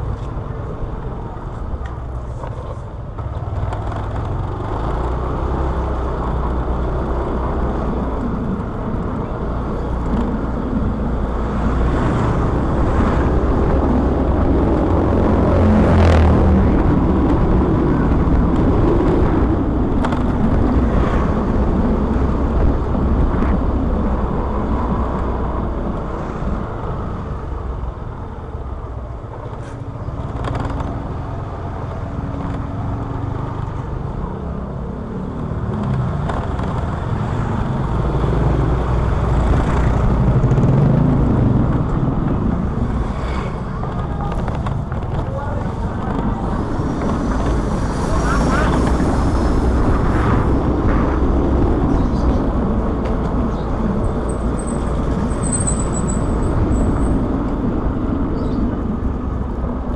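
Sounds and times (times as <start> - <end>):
road noise: 0.0 - 59.9
vehicles passing: 0.0 - 59.9.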